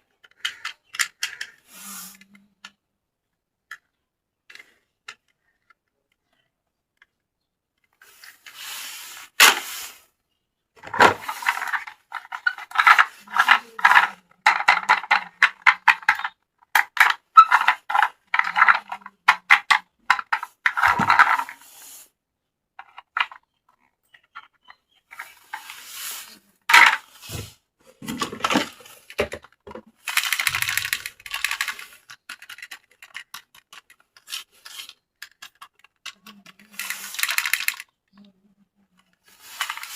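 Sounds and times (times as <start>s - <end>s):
plastic toy parts clicking: 0.1s - 2.8s, 3.6s - 8.6s, 10.8s - 21.6s, 22.8s - 25.8s, 28.2s - 39.9s.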